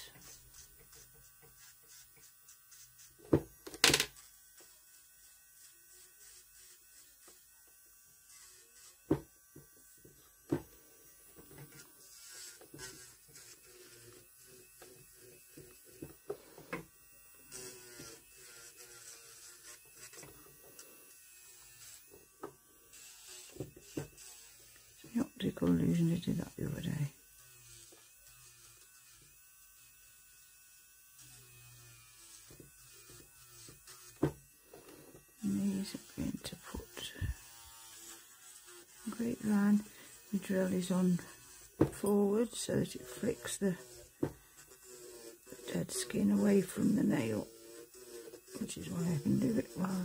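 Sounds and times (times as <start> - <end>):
electric nail drill whine: 0.0 - 50.0.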